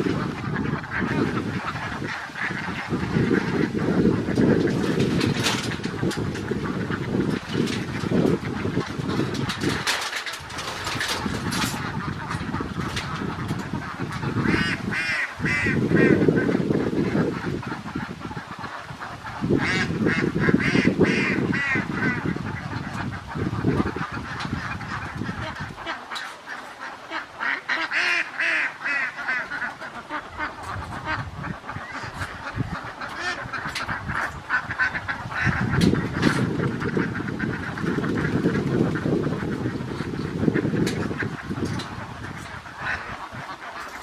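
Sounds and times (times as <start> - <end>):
flock of ducks quacking: 0.0 - 44.0.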